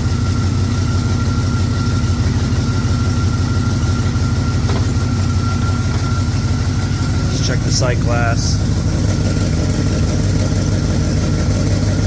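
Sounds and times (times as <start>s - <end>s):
compressor high whine: 0.0s - 12.0s
engine idling: 0.0s - 12.0s.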